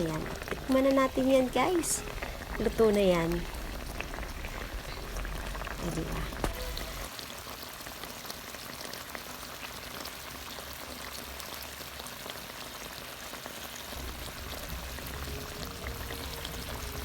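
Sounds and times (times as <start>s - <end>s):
stew bubbling in a pot: 0.0s - 17.0s.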